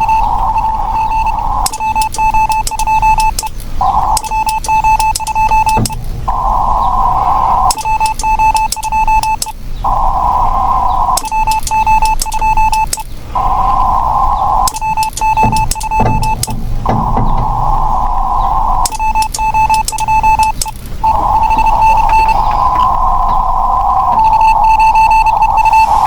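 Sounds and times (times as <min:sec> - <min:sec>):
morse code tone: 0:00.0 - 0:09.6, 0:11.2 - 0:13.6, 0:14.6 - 0:26.0
radio band hiss: 0:00.0 - 0:26.0.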